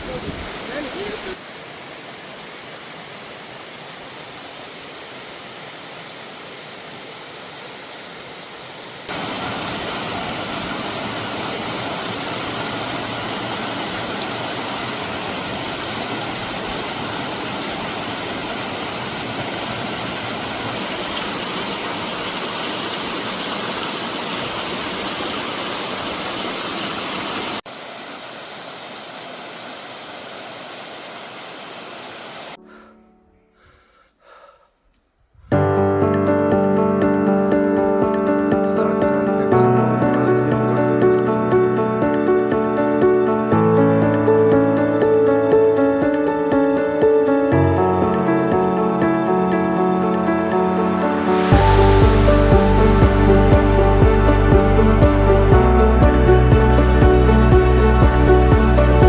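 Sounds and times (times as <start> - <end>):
stream rushing: 0.0 - 32.6, 36.2 - 59.0.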